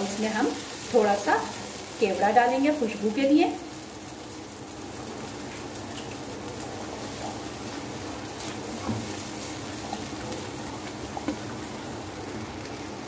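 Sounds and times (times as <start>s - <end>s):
food sizzling in a metal pan: 0.0s - 13.0s.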